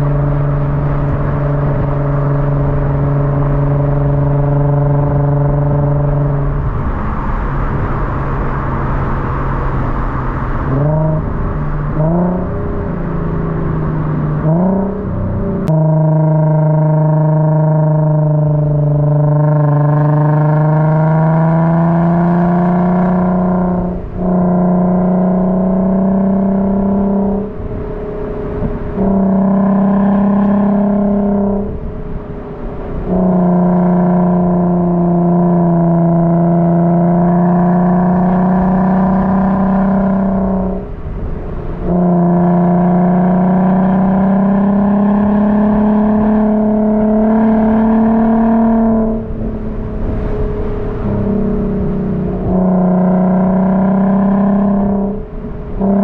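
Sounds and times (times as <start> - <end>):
car engine under load: 0.0 - 56.0.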